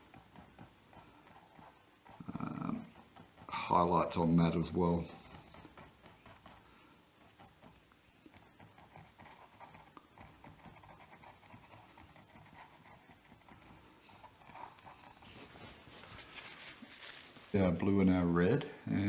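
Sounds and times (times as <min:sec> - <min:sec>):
paintbrush scratching on canvas: 0:00.0 - 0:17.8.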